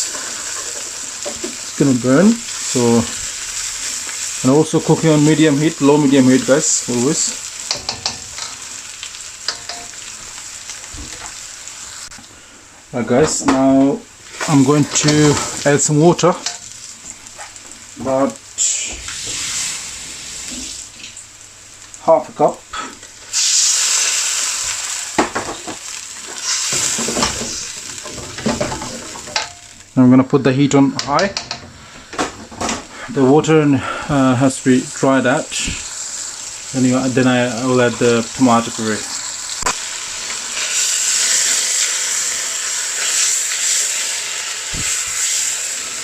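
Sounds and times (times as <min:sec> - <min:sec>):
onions sizzling in a pan: 0:00.0 - 0:12.7, 0:13.3 - 0:30.0, 0:31.7 - 0:46.0.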